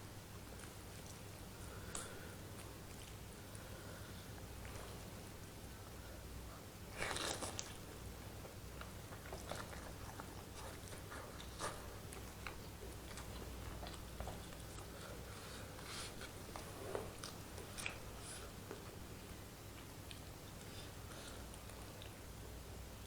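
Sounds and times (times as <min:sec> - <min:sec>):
faint low hum: 0:00.0 - 0:23.0
person chewing food: 0:00.3 - 0:19.0.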